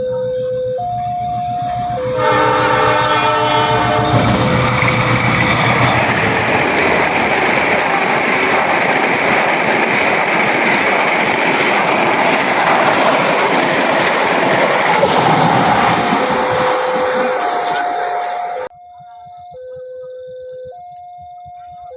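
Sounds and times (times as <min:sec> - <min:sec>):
train passing at speed: 0:01.0 - 0:18.7.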